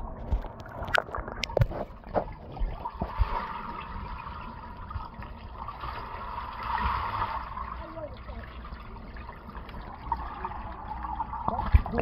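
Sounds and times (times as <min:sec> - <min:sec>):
underwater water rush: 0:00.0 - 0:12.0.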